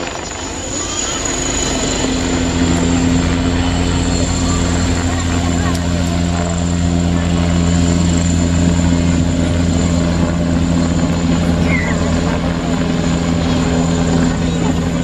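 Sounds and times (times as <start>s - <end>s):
helicopter rotor and engine drone: 0.0s - 15.0s
high whine: 0.0s - 15.0s.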